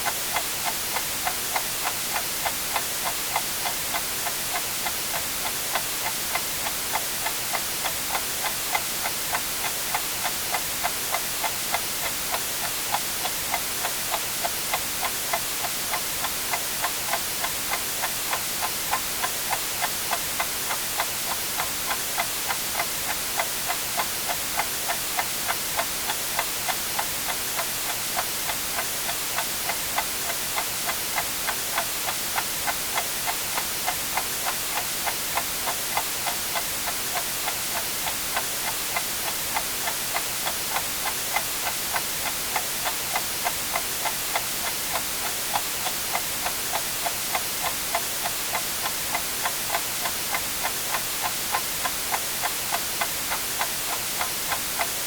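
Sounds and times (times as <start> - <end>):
white noise hiss: 0.0 - 55.0
clock ticking: 0.1 - 55.0.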